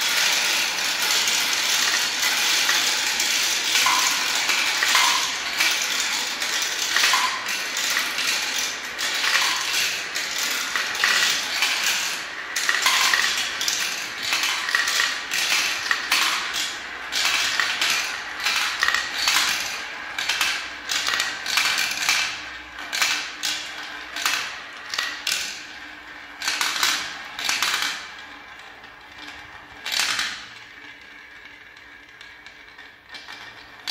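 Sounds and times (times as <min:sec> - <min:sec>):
plastic balls rattling in marble run: 0:00.0 - 0:33.9.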